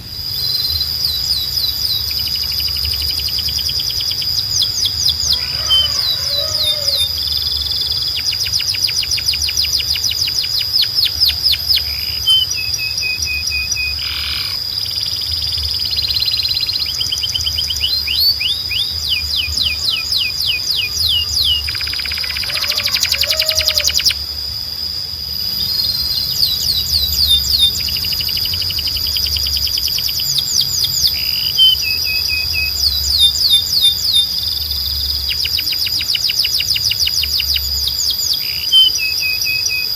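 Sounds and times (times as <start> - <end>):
canary singing: 0.0 - 24.6, 25.3 - 39.9.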